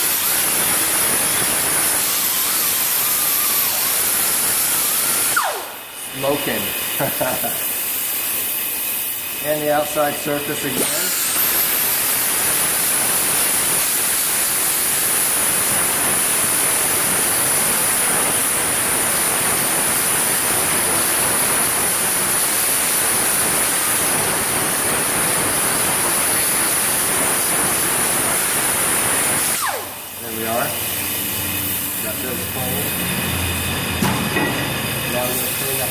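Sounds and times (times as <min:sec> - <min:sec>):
air blow gun hissing: 0:00.0 - 0:35.9.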